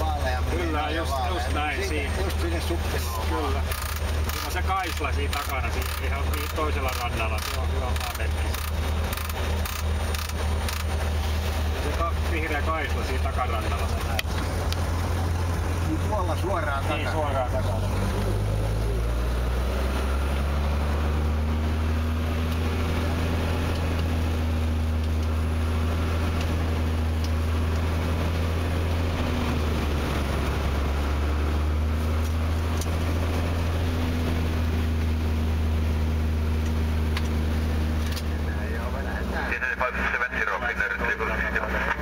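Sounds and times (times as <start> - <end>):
propeller plane engine drone: 0.0 - 42.0.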